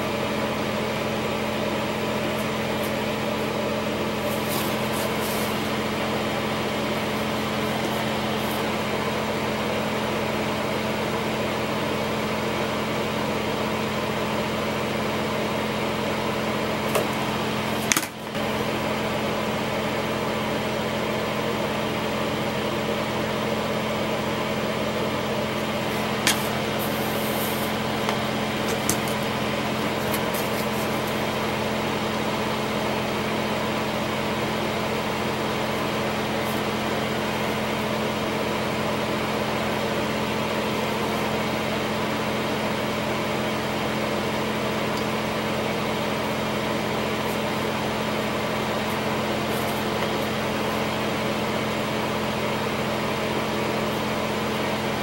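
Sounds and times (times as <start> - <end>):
mechanical hum and hiss: 0.0 - 55.0.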